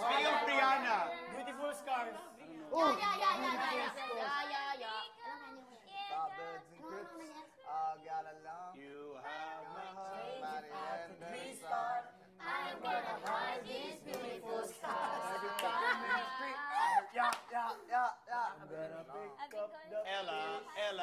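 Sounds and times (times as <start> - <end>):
young voices singing together: 0.0 - 7.7, 8.8 - 21.0.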